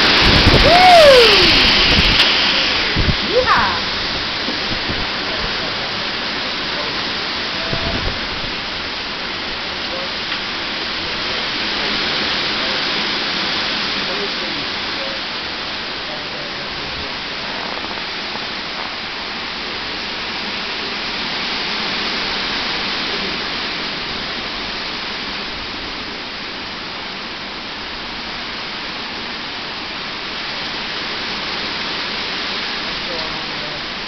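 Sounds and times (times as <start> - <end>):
strong storm wind blowing: 0.0 - 34.0.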